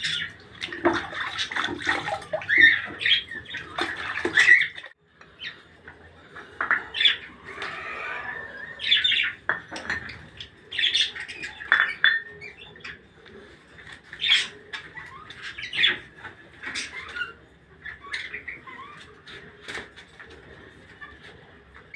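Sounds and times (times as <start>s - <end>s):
birds chirping and squawking: 0.0s - 21.9s.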